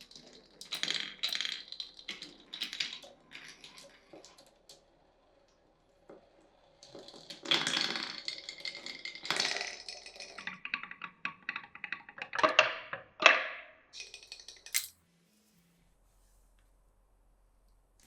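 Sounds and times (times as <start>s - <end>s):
marbles rolling through wooden run: 0.0s - 14.7s.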